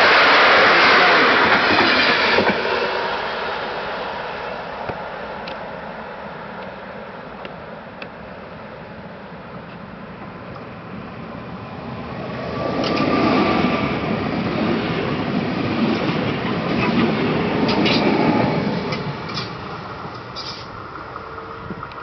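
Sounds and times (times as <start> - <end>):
train rushing rumble: 0.0 - 22.0.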